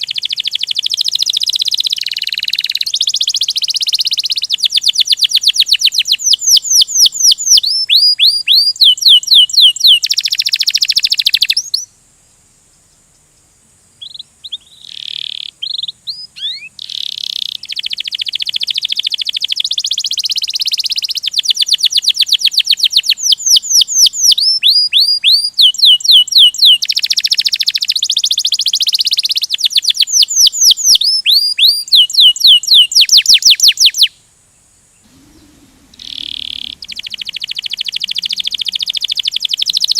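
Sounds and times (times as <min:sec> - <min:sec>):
canary singing trills: 0:00.0 - 0:11.9, 0:14.0 - 0:34.2, 0:34.9 - 0:39.9.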